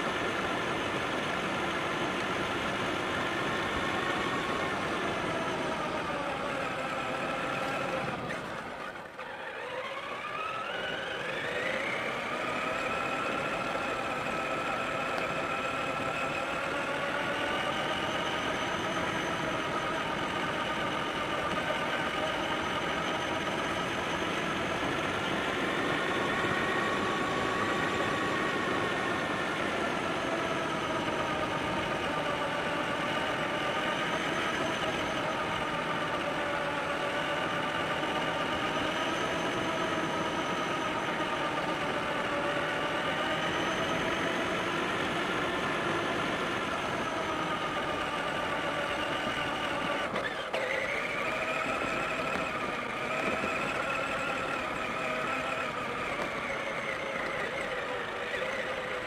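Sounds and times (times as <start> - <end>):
electric motor whining: 0.0 - 59.0
tyres rushing on dirt: 0.0 - 59.0.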